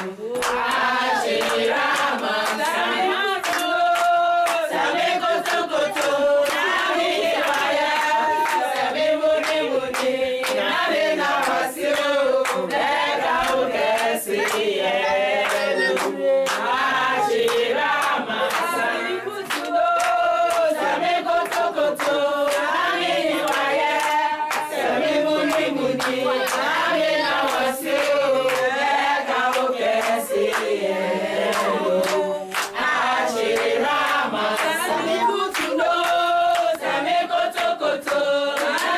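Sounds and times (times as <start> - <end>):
group singing: 0.0 - 38.9
hand-clapping: 0.0 - 38.9.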